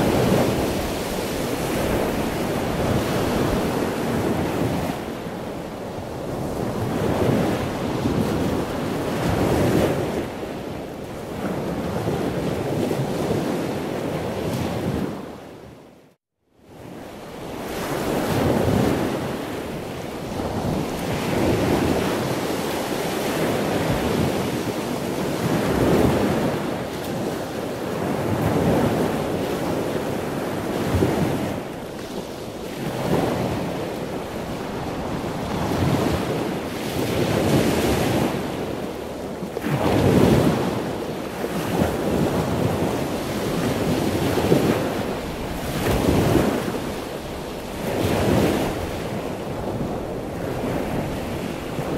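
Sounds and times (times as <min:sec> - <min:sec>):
sea waves washing ashore: 0:00.0 - 0:15.9, 0:16.6 - 0:51.9.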